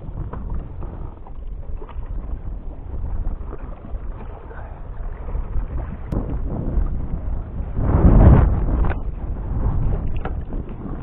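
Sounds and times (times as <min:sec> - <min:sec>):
waves lapping on kayak hull: 0:00.0 - 0:11.0
wind buffeting microphone: 0:00.0 - 0:11.0.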